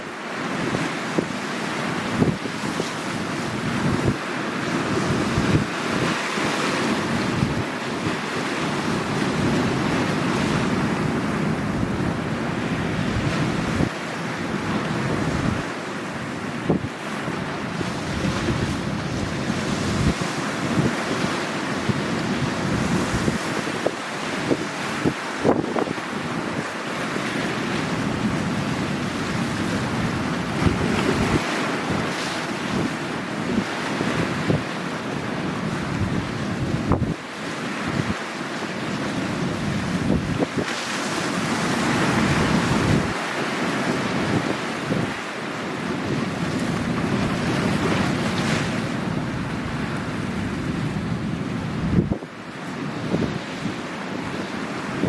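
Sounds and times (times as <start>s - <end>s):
sea waves washing on shore: 0.0s - 55.0s
wind buffeting microphone: 2.0s - 26.7s, 27.8s - 37.2s, 38.9s - 45.2s, 45.9s - 55.0s.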